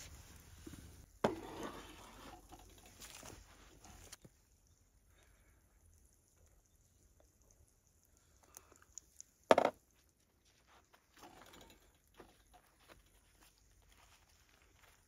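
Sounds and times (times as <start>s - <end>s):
bread roll crackling: 2.1s - 15.0s.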